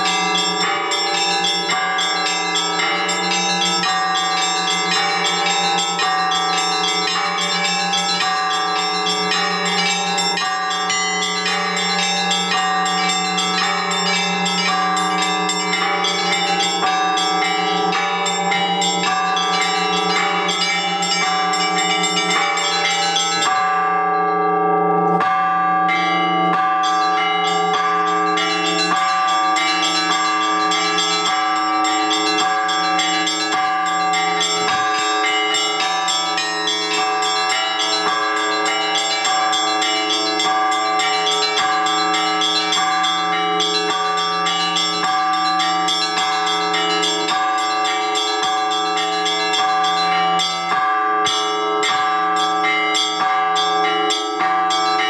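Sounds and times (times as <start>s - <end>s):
small bells striking rapidly: 0.0s - 24.5s, 25.2s - 55.0s
low church bell tone: 0.0s - 55.0s.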